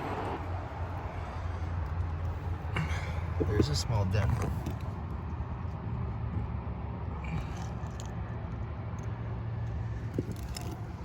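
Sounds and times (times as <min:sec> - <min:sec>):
distant highway traffic rumble: 0:00.0 - 0:11.0.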